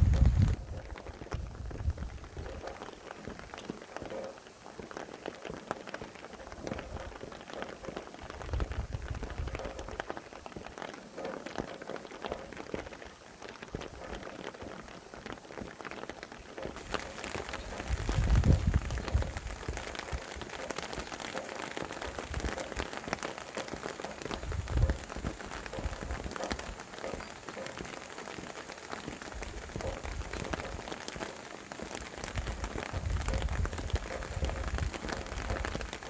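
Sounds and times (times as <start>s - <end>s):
wind gusts: 0.0s - 10.4s, 16.6s - 36.0s
rain drops tapping: 0.0s - 36.0s.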